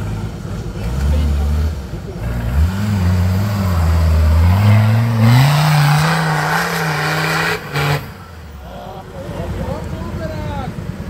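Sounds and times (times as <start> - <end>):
off-road engine revving: 0.0 - 11.0
spinning tyres and flung dirt: 0.0 - 11.0.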